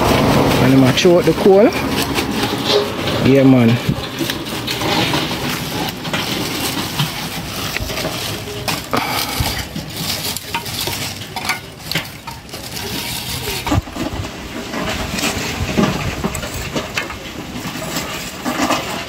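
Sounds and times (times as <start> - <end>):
charcoal clattering in metal stove: 0.0 - 19.0.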